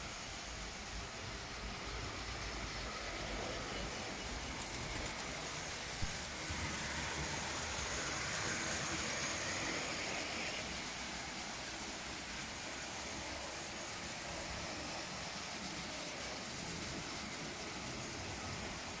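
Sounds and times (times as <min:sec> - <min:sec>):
model train wheels on rails: 0:00.0 - 0:19.0.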